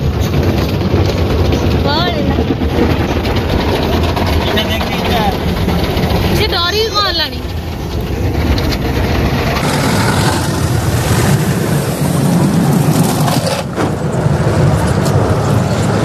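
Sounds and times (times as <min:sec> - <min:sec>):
car wash water and machinery: 0:00.0 - 0:16.0.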